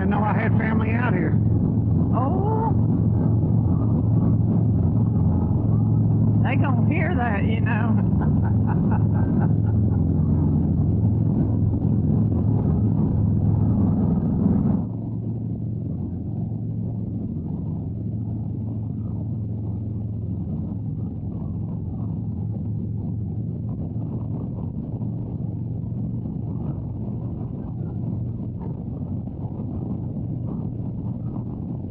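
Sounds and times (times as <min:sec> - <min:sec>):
motorcycle engine and exhaust: 0:00.0 - 0:31.9.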